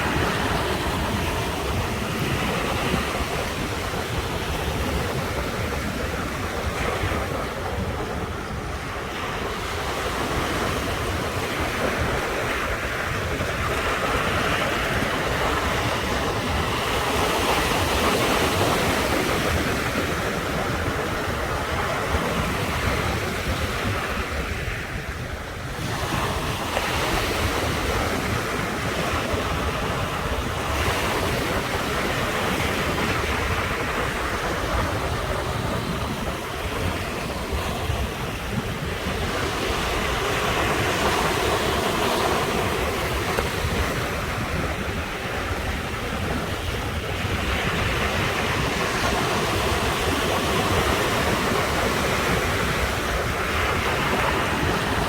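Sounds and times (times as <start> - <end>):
ocean surf washing ashore: 0.0 - 55.0
wind rumble on microphone: 0.0 - 55.0.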